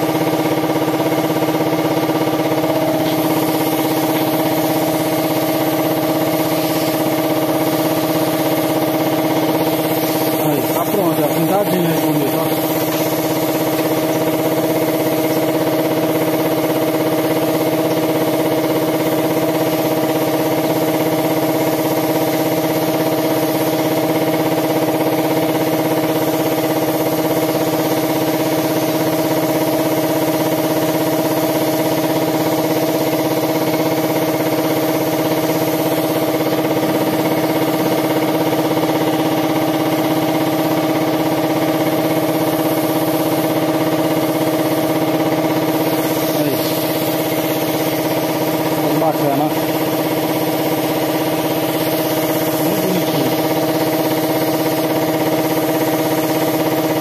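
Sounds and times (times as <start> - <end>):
air compressor humming: 0.0 - 57.0.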